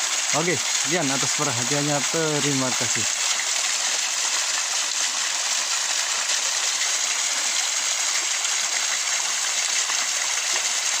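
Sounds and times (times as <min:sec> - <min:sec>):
waterfall splashing onto rocks: 0:00.0 - 0:11.0.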